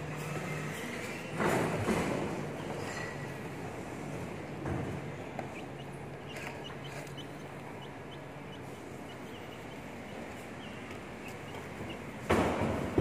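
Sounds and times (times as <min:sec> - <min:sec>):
small birds chirping: 0:02.3 - 0:13.0.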